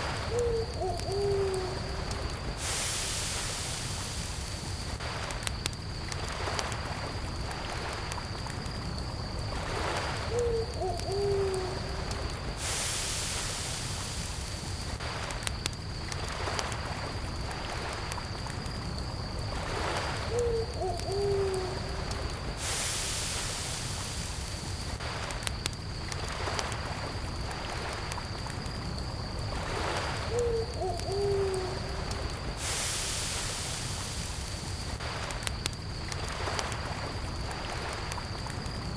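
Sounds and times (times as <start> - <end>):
cricket trill: 0.0 - 38.9
water waves washing in: 0.0 - 38.9
campfire crackling and popping: 0.9 - 2.6, 3.2 - 11.0, 11.6 - 12.6, 13.2 - 20.2, 21.6 - 30.3, 31.6 - 38.9.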